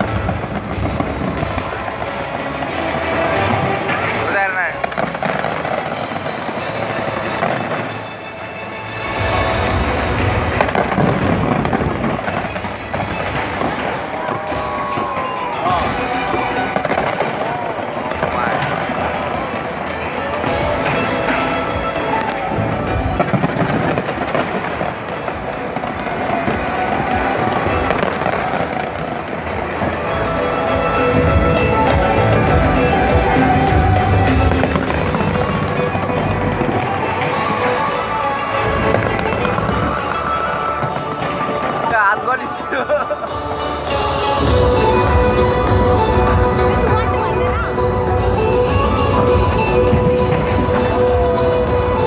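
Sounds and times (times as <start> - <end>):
fireworks crackling and booming: 0.0 - 52.0
music: 0.0 - 52.0.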